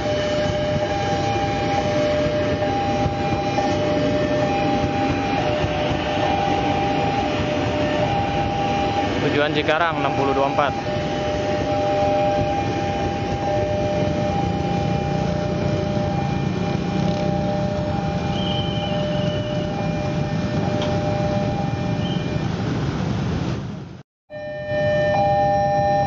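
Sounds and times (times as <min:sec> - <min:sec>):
level crossing two-tone alarm: 0:00.0 - 0:22.6, 0:24.3 - 0:26.0
motorbikes idling: 0:00.0 - 0:23.1
electric train rumbling: 0:00.0 - 0:26.0.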